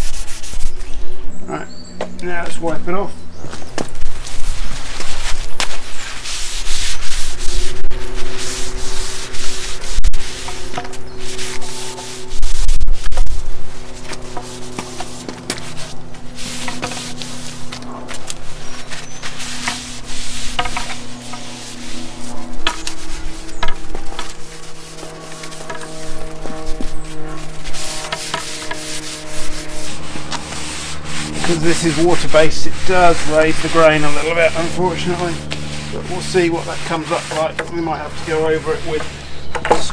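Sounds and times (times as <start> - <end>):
paper towel rubbing on wood: 0.0 - 0.9, 4.1 - 39.9.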